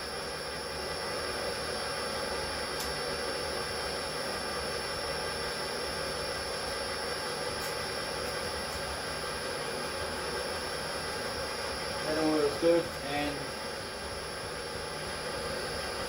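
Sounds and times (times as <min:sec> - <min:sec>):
lathe whirring: 0:00.0 - 0:16.0.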